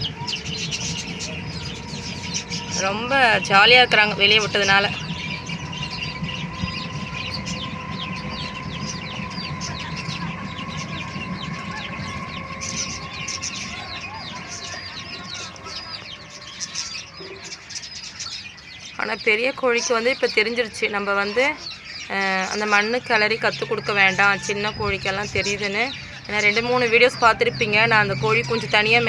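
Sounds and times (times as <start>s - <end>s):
chicks peeping: 0.0s - 29.0s
steady background hum: 0.0s - 29.0s.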